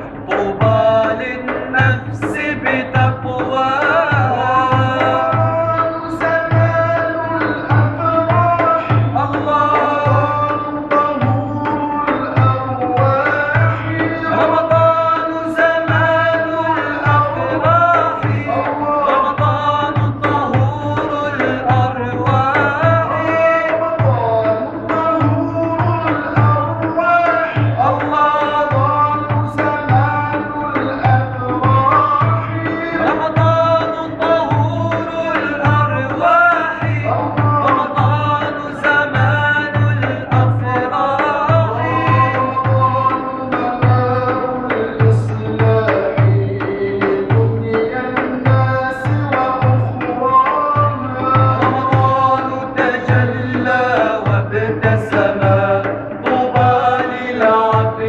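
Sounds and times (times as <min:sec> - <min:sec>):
frame drum beats: 0:00.0 - 0:58.0
men singing a devotional chant: 0:00.0 - 0:58.0.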